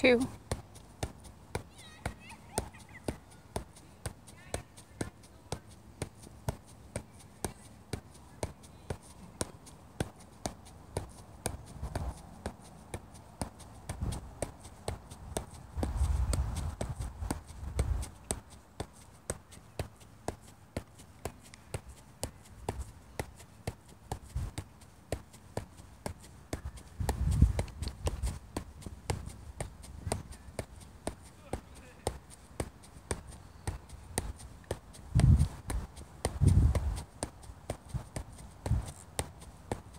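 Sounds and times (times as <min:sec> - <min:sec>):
foot tapping soccer ball: 0:00.0 - 0:39.9.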